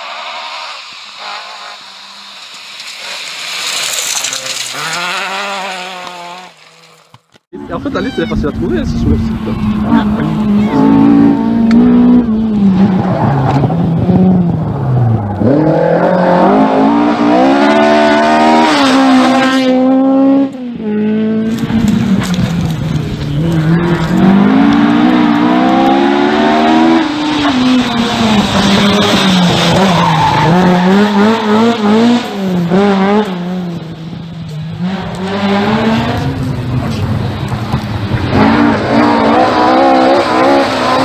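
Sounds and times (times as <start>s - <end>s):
rally car engine revving: 0.0s - 7.0s, 7.6s - 41.0s.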